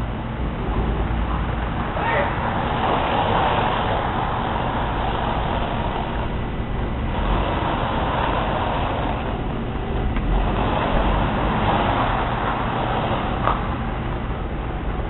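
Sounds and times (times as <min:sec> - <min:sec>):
steady rumbling: 0:00.0 - 0:15.0.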